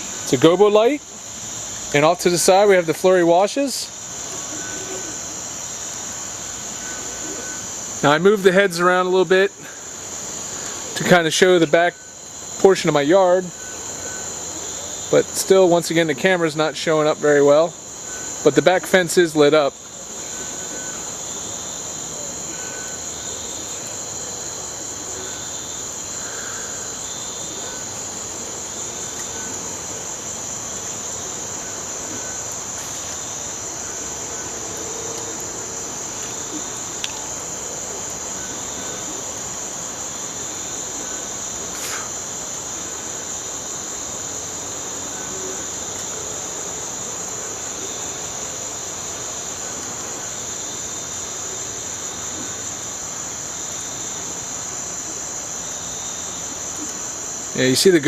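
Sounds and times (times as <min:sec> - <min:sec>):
high-pitched cricket chorus: 0:00.0 - 0:58.0
soft low insect chirping: 0:00.0 - 0:58.0.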